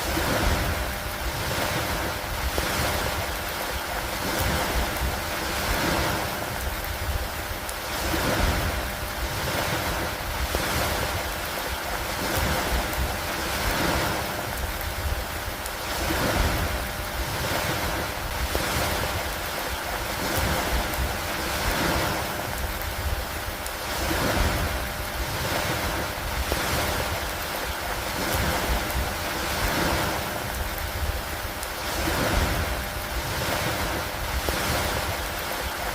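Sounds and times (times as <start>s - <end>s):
lake water: 0.0s - 35.9s
rain: 0.0s - 35.9s
wind: 0.0s - 35.9s.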